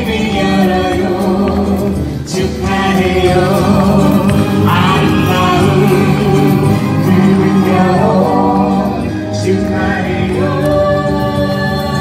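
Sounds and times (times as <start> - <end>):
man and woman singing: 0.0 - 12.0
musical accompaniment: 0.0 - 12.0.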